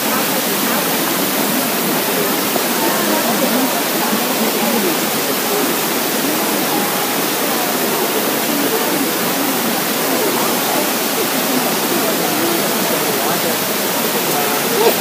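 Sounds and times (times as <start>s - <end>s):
crowd chatter: 0.0s - 15.0s
waterfall rushing: 0.0s - 15.0s.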